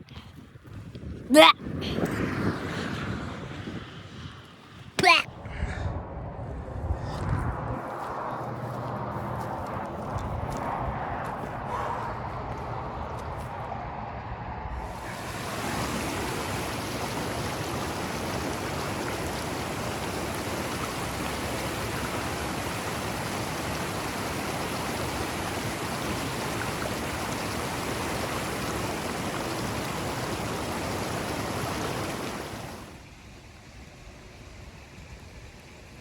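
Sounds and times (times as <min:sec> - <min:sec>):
blizzard wind rushing: 0:00.0 - 0:33.0.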